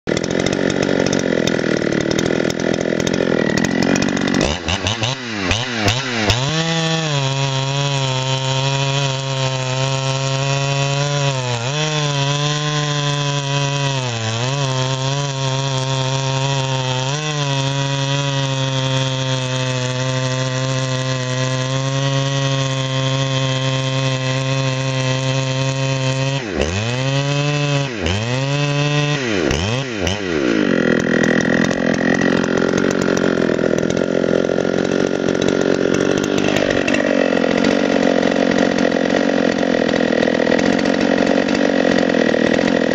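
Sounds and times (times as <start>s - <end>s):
chainsaw cutting log: 0.0s - 42.9s.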